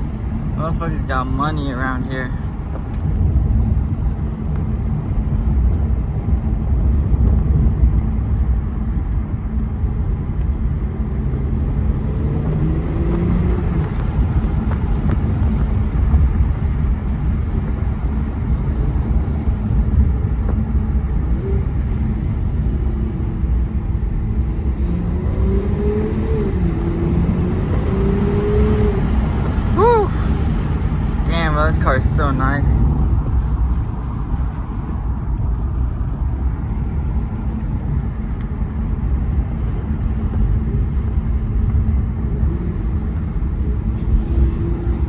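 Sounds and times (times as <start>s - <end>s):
car engine rumbling: 0.0s - 45.0s
road noise: 0.0s - 45.0s.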